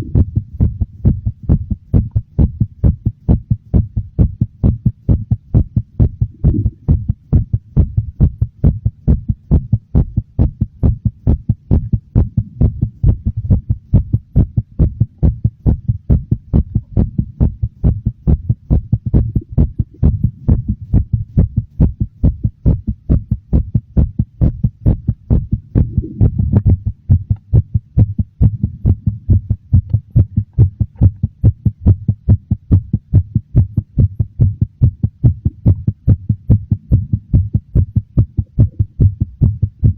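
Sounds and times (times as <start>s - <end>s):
heartbeat: 0.0s - 39.9s
low hum: 0.0s - 39.9s.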